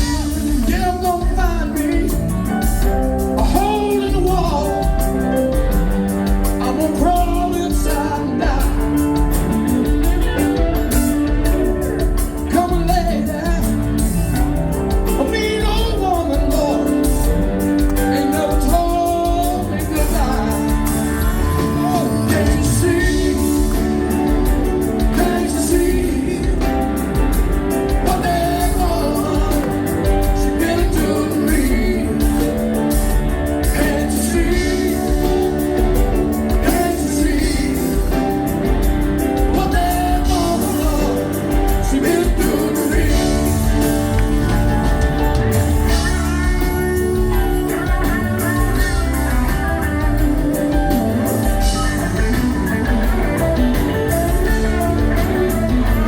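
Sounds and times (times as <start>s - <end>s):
lead guitar bending notes: 0.0s - 56.0s
rock band playing: 0.0s - 56.0s.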